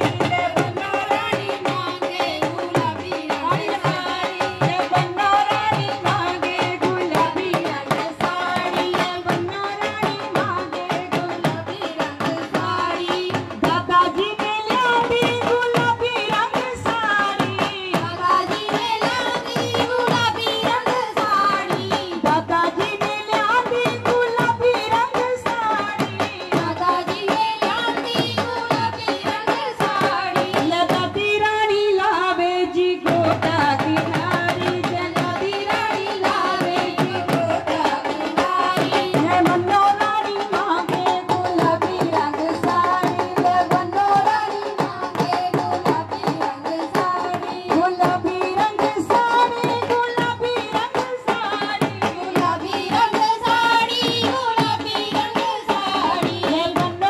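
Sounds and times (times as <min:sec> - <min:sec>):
drum beat: 0:00.0 - 0:57.0
women singing folk song: 0:00.0 - 0:57.0.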